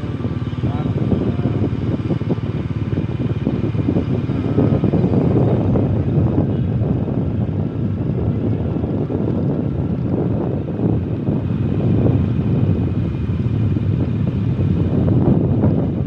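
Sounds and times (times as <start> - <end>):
vehicle engine rumble: 0.0 - 16.0
wind buffeting microphone: 0.0 - 16.0.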